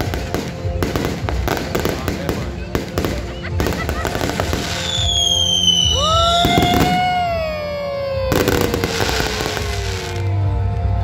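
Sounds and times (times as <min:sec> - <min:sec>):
fireworks falling whistles: 0:00.0 - 0:07.6, 0:08.2 - 0:10.3
fireworks crackling bursts: 0:00.0 - 0:10.4.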